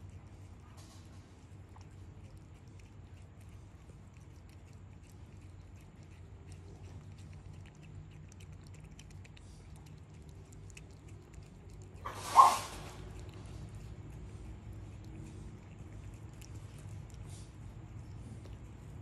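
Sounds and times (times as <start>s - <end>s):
cat licking and chewing: 0.0s - 19.0s.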